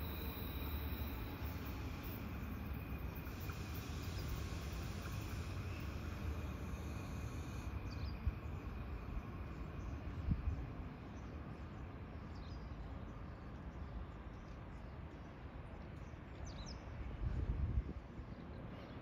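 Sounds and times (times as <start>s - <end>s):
train rumbling: 0.0s - 18.7s.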